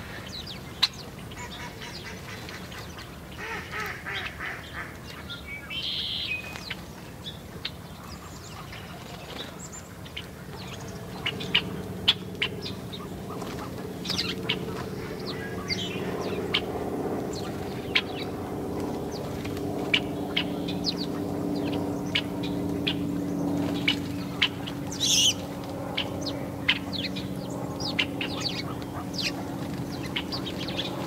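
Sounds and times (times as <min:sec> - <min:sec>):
low steady hum: 0:00.0 - 0:31.0
small songbirds chirping: 0:04.7 - 0:31.0.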